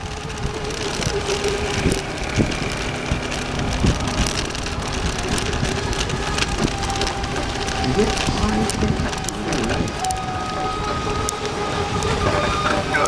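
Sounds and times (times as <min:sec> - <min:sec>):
model boat motors droning: 0:00.0 - 0:13.0
wind rumble on microphone: 0:00.0 - 0:13.0.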